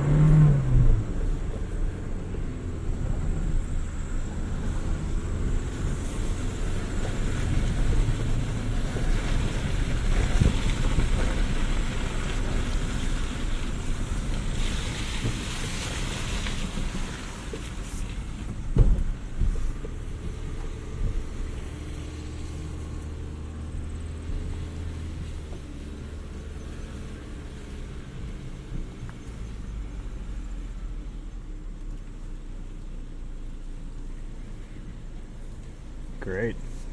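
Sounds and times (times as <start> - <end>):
vehicle engine low rumble: 0.0 - 36.9.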